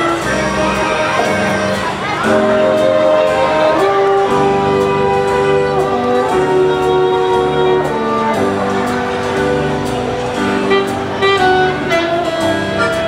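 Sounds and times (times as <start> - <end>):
slow melody of long held notes: 0.0 - 13.0.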